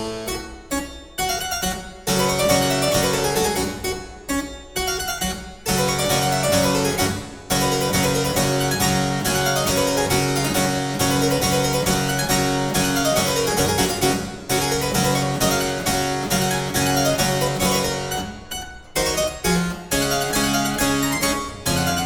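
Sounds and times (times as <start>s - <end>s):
harpsichord-like keyboard music: 0.0s - 22.0s.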